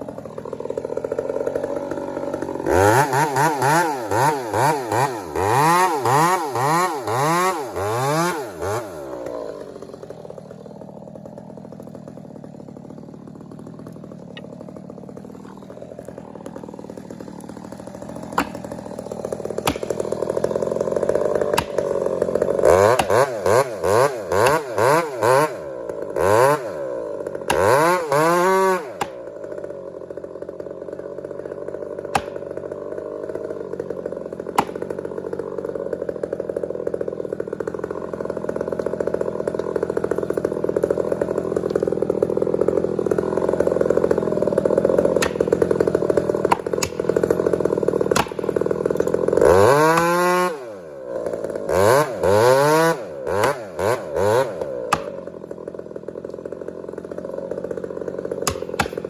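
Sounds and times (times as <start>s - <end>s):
chainsaw revving and cutting tree: 0.0s - 59.0s.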